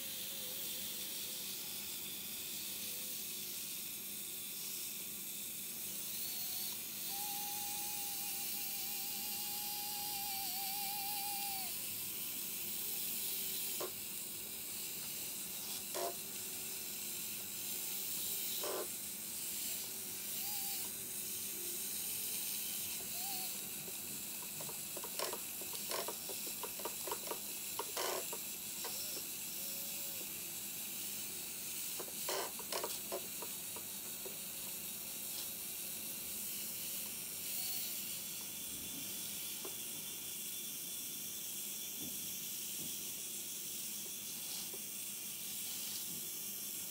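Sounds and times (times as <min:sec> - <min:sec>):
steady hiss: 0:00.0 - 0:46.9
tiny electric motors whining: 0:00.0 - 0:46.9.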